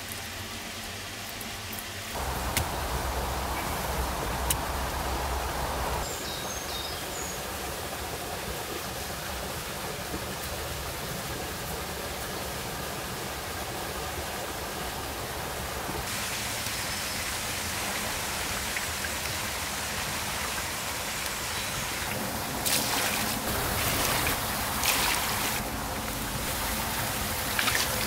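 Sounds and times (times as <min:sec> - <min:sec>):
stream water rushing: 0:02.1 - 0:28.0.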